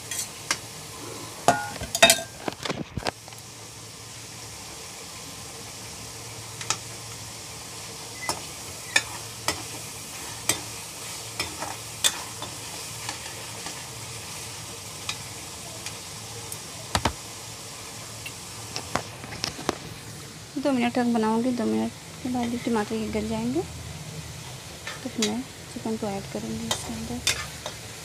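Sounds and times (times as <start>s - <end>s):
masala frying and sizzling: 0.0s - 28.0s.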